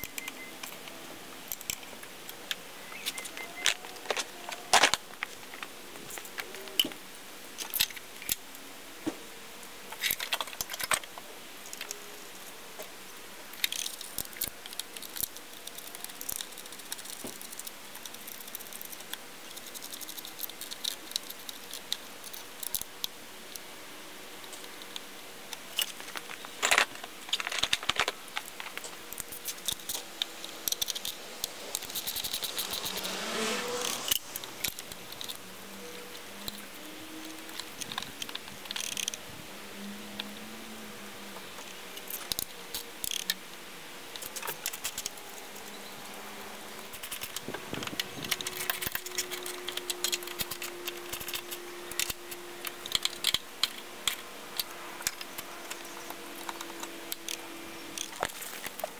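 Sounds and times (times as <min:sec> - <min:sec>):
hands working on engine wiring: 0:00.0 - 0:09.2, 0:09.8 - 0:39.3, 0:39.9 - 0:58.9.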